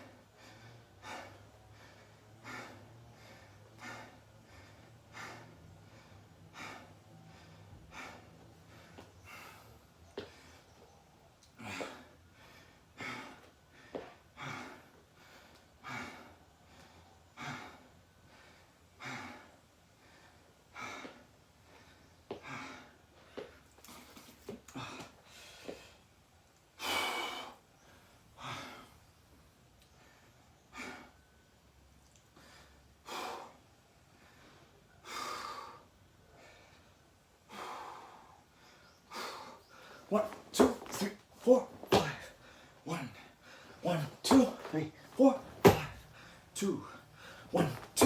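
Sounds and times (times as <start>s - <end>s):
person breathing hard: 0.0s - 10.8s, 11.5s - 24.1s, 32.3s - 48.0s.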